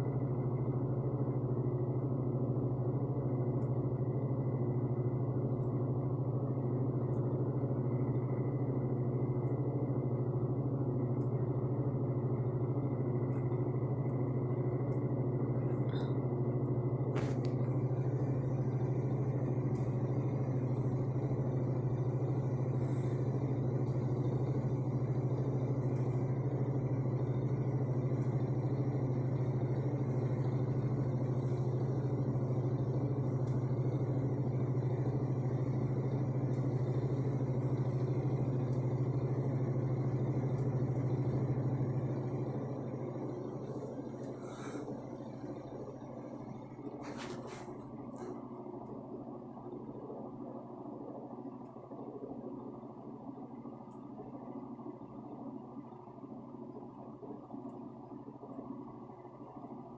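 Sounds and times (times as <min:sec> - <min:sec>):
faint high whine: 0:00.0 - 0:59.9
heater and fan humming: 0:00.0 - 0:59.9.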